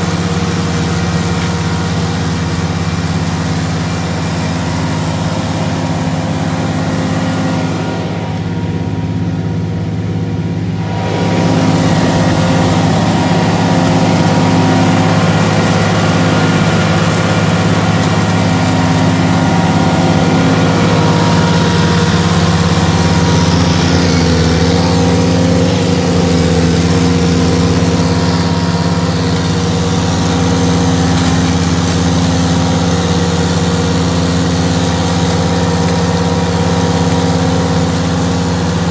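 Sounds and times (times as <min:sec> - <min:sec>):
flail mower cutting brush: 0:00.0 - 0:38.9
skid steer engine running: 0:00.0 - 0:38.9.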